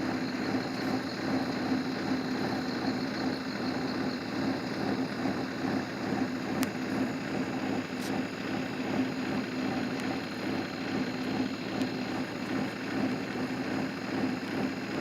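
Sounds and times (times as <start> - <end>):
car running hum: 0.0 - 15.0.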